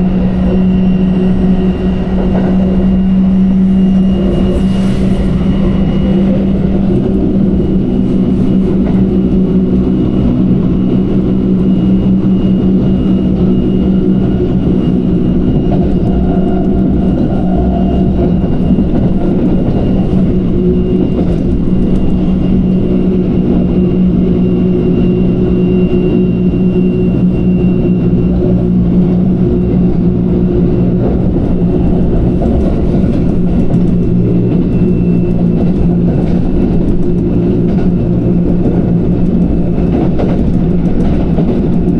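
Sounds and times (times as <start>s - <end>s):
traction motor hum: 0.0s - 41.9s
train wheels rumbling on track: 0.0s - 41.9s.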